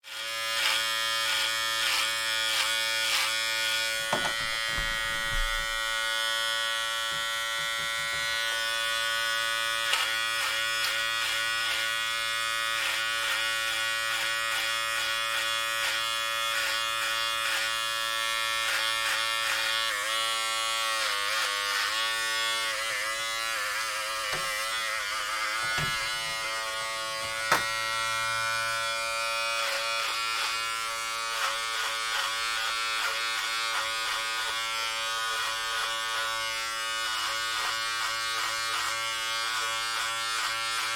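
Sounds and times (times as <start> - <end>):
electric hair clippers buzzing: 0.0 - 40.9.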